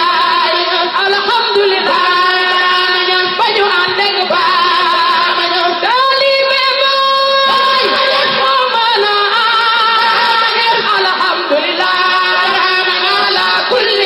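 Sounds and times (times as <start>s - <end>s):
person singing devotional song: 0.0s - 14.0s.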